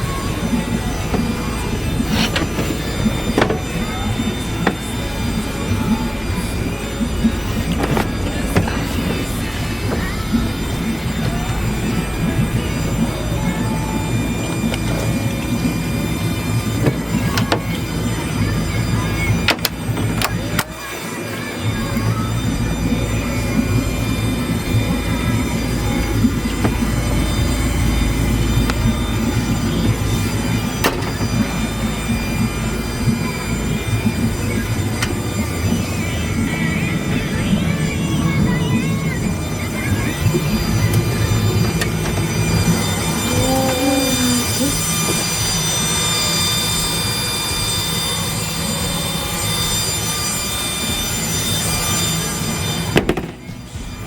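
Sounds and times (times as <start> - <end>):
boat engines droning: 0.0 - 54.0.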